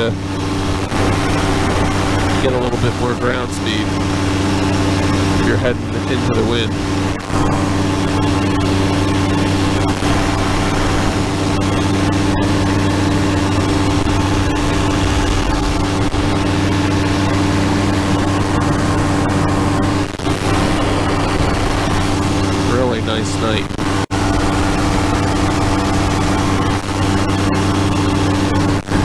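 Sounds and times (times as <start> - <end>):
engine and propeller droning: 0.0 - 29.0.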